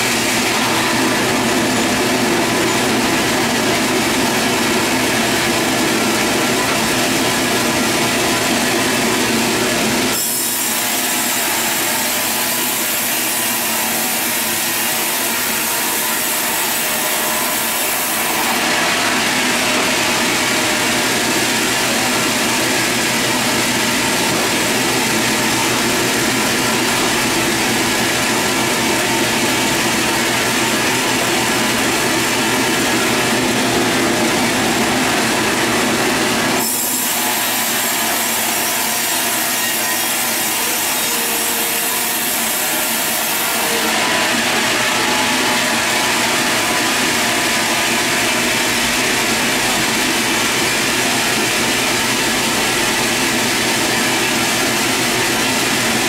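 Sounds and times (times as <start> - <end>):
band sawmill sawing a log: 0.0 - 56.0.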